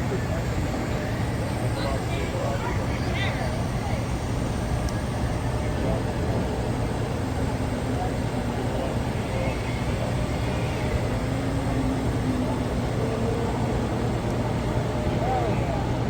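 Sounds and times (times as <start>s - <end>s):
city street traffic: 0.0s - 16.0s
faint voices: 0.0s - 16.0s.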